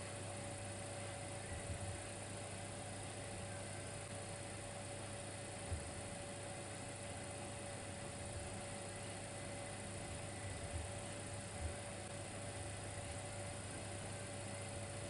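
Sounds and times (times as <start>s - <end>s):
constant hiss: 0.0s - 15.0s
electrical hum: 0.0s - 15.0s
faint steady tone: 0.0s - 15.0s.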